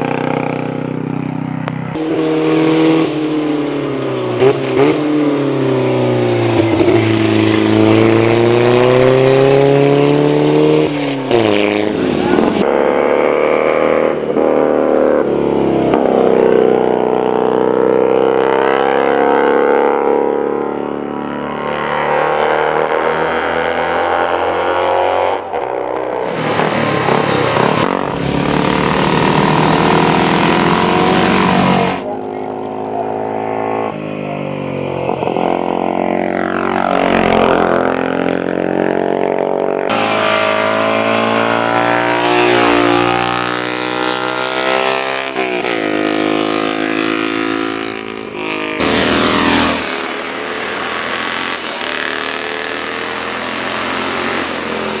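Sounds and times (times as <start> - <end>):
racing motorcycle engines revving: 0.0 - 55.0.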